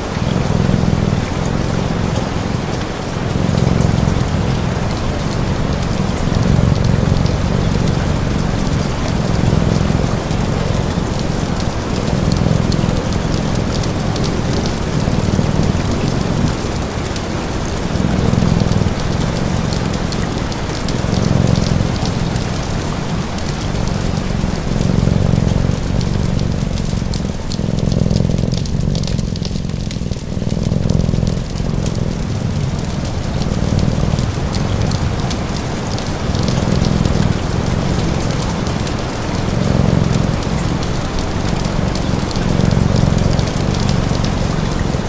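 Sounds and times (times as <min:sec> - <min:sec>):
cat purring: 0:00.0 - 0:45.0
fire crackle: 0:00.0 - 0:45.0
steady rain: 0:00.0 - 0:45.0.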